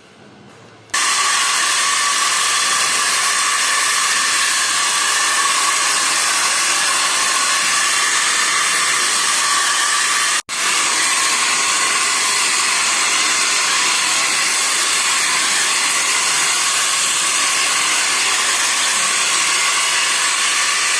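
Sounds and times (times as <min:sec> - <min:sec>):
duct-cleaning equipment rushing air: 0:01.0 - 0:20.9.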